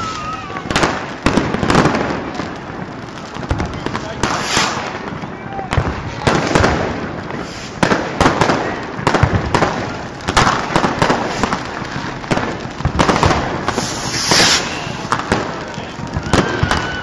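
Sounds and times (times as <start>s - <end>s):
firework hiss: 0.0s - 17.0s
fireworks banging: 0.0s - 17.0s.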